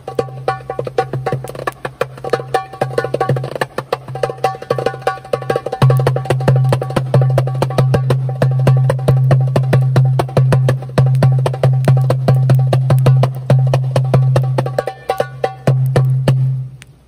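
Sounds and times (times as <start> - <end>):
goblet drum played by hand: 0.0 - 16.8.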